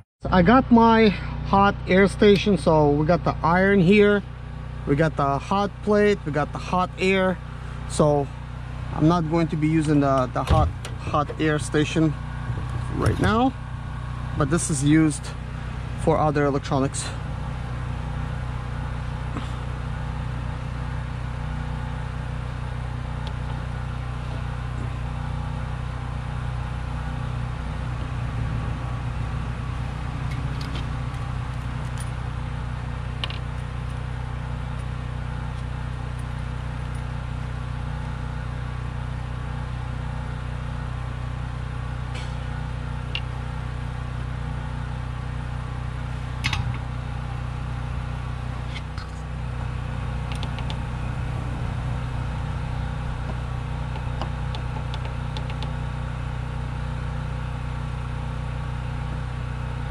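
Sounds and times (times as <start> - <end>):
machine humming: 0.2 - 39.3, 41.1 - 59.9.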